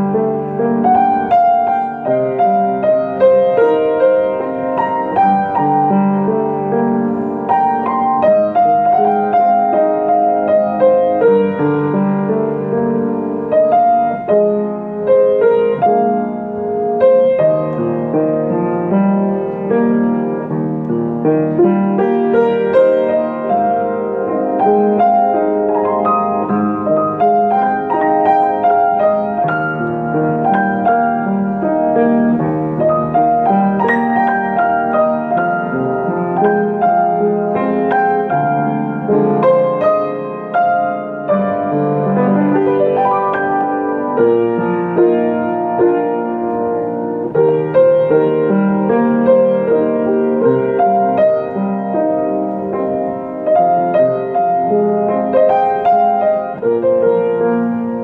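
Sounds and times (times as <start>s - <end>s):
solo piano melody: 0.0s - 58.0s.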